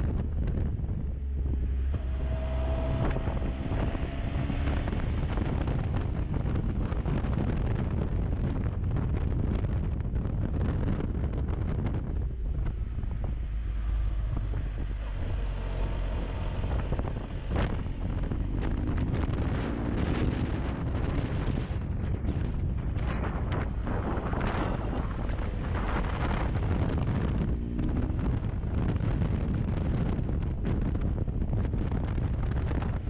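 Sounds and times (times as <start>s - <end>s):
motorcycle engine running: 0.0s - 33.0s
wind buffeting microphone: 0.0s - 33.0s.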